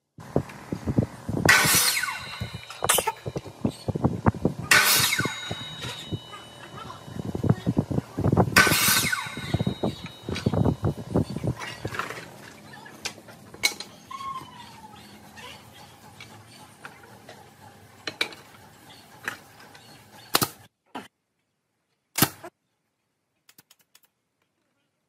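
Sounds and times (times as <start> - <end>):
steady background noise: 0.0 - 20.7.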